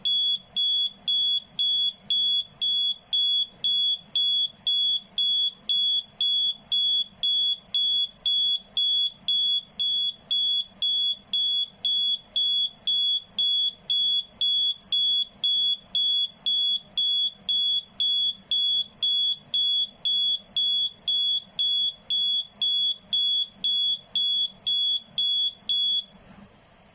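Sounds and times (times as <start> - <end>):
alarm clock beeping: 0.0 - 26.0.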